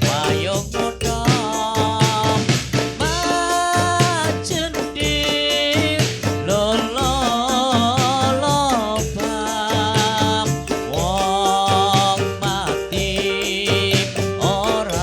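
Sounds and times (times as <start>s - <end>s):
steady low drum beat: 0.0s - 15.0s.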